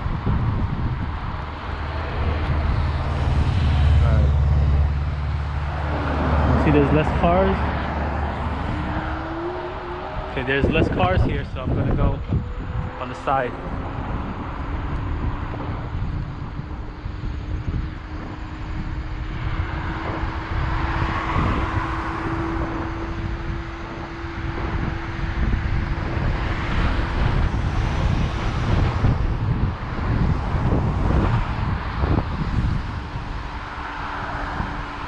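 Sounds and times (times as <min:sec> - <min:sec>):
car passing: 0:00.0 - 0:35.0
wind buffeting microphone: 0:00.0 - 0:35.0.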